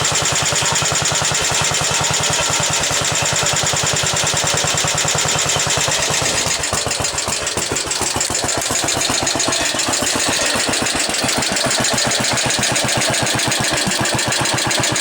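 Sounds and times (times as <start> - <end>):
engine knocking: 0.0 - 15.0
single-cylinder engine running: 0.0 - 15.0.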